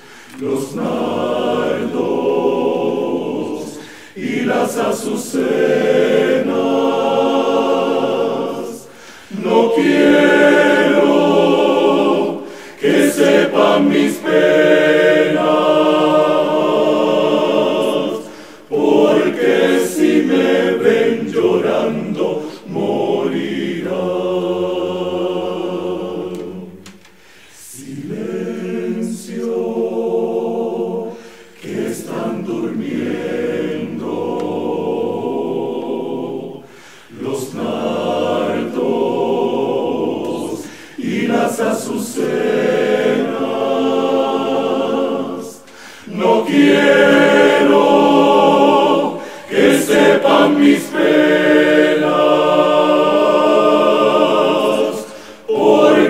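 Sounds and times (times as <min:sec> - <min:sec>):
male choir singing a cappella: 0:00.0 - 0:56.0.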